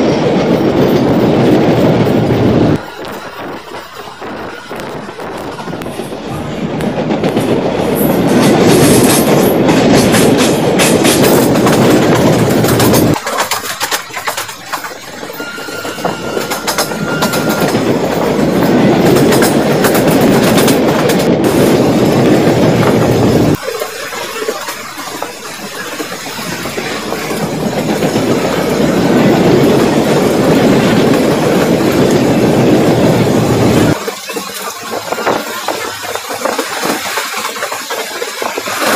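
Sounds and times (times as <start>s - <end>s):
train wheel and rail rumble: 0.0s - 38.9s
wheels clicking over rail joints: 0.0s - 38.9s.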